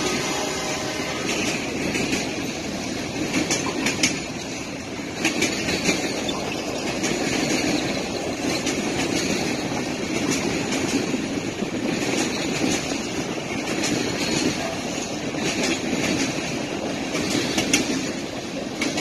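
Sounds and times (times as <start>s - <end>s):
sharp rail clicks: 0.0s - 19.0s
train wheels rumbling on rail: 0.0s - 19.0s.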